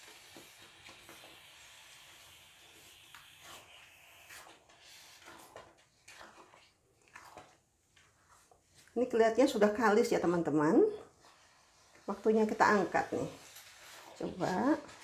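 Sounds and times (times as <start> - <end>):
soft squelches of batter: 0.0 - 15.0
spatula scraping porridge in wok: 0.0 - 15.0.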